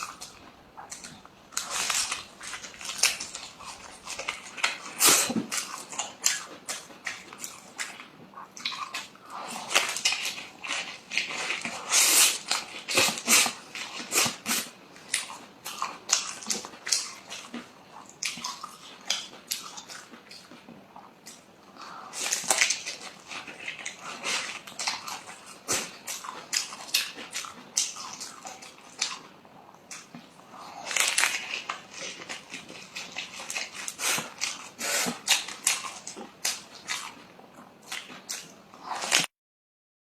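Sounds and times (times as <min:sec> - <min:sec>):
chewing and crunching food: 0:00.0 - 0:39.3.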